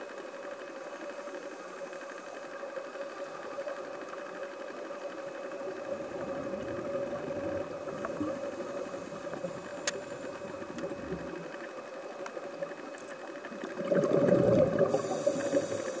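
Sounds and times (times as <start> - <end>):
underwater mechanical hum: 0.0 - 16.0.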